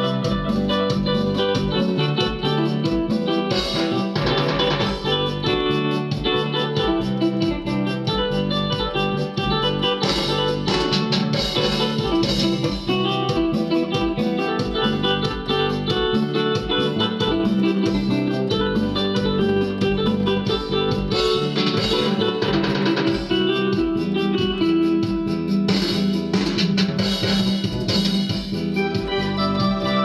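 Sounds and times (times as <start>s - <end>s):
guitar voice melody: 0.0s - 30.0s
keyboard accompaniment with drums and bass: 0.0s - 30.0s.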